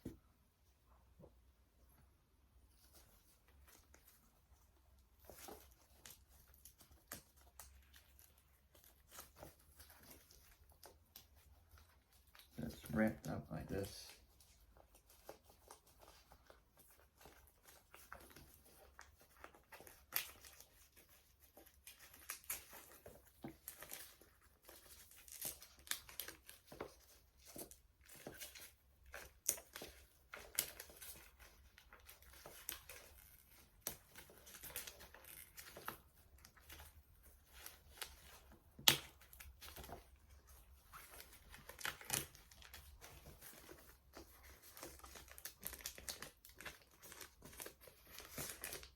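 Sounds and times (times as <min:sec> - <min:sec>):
packaging crinkling and tearing: 0:05.2 - 0:48.9.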